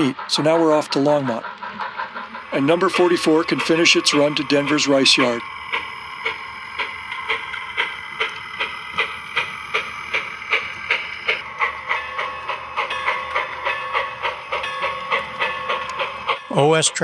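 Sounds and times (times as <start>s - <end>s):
model steam locomotive chuffing: 0.0s - 17.0s
steady tone: 0.0s - 17.0s.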